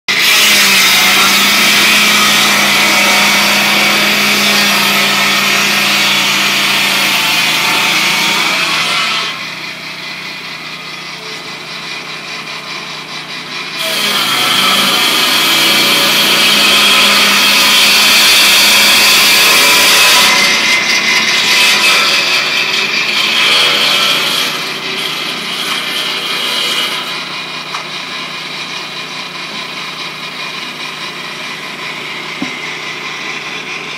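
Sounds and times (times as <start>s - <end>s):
circular saw cutting log: 0.1s - 33.9s.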